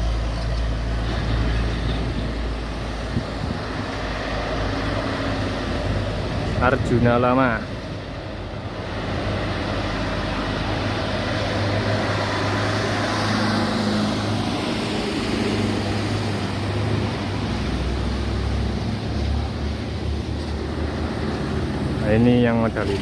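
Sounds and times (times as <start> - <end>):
bus diesel engine passing: 0.0 - 23.0.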